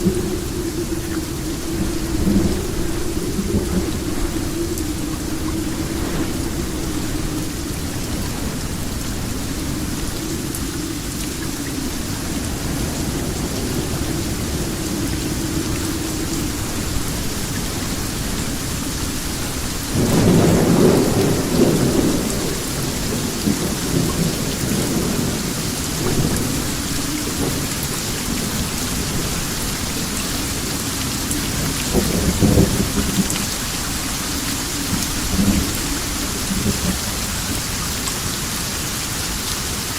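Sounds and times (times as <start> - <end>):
rolling thunder: 0.0 - 39.4
steady rain: 0.0 - 39.9.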